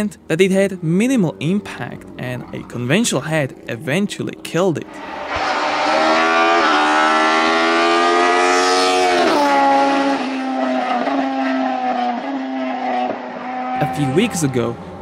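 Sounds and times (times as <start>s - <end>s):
racing engine at high revs: 0.6s - 15.0s.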